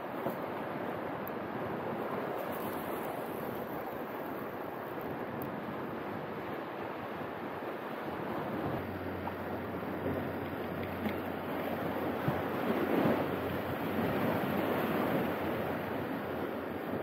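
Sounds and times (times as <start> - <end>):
small waves washing ashore: 0.0 - 17.0
wind on microphone: 0.0 - 17.0.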